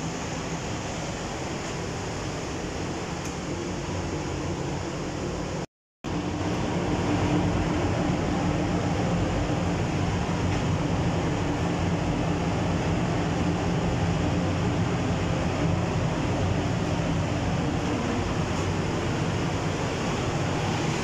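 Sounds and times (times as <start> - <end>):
ventilation fans rushing: 0.0 - 21.0.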